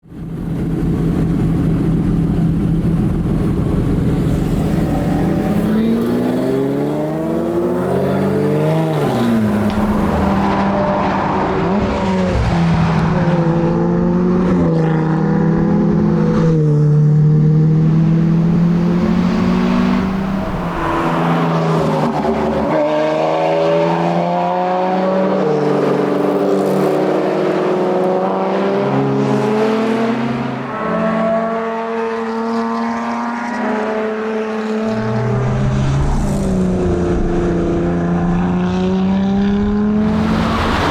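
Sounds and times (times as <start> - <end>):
car engine revving through gears: 3.4 - 40.9.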